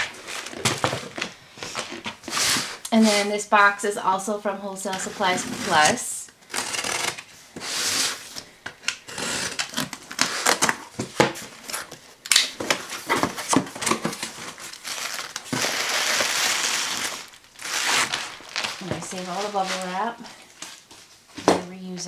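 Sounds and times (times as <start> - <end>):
bubble wrap crinkling and rustling: 0.0 - 3.8, 4.9 - 21.5.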